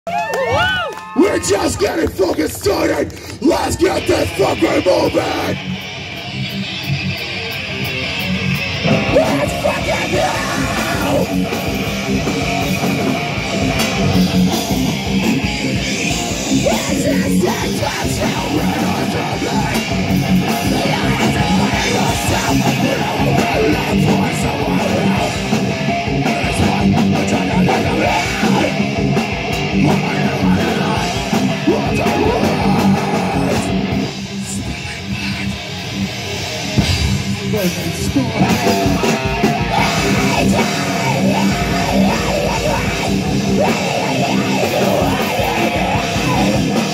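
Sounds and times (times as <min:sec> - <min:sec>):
distorted electric guitars: 0:00.1 - 0:46.9
drum kit: 0:04.0 - 0:46.9.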